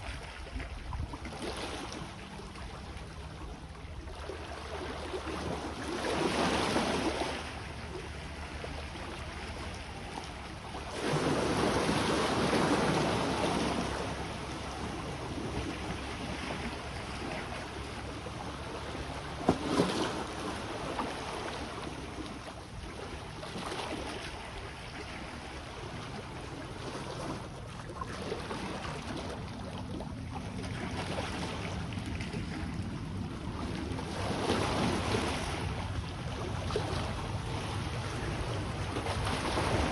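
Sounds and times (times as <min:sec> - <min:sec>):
sea waves washing ashore: 0:00.0 - 0:39.9
wind rumble on microphone: 0:00.0 - 0:39.9.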